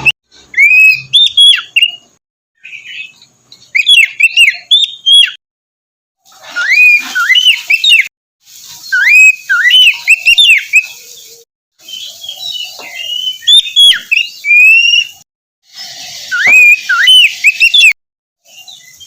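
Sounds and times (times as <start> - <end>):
bird singing whistled notes: 0.0 - 5.4, 6.6 - 8.1, 8.8 - 15.2, 16.2 - 19.0.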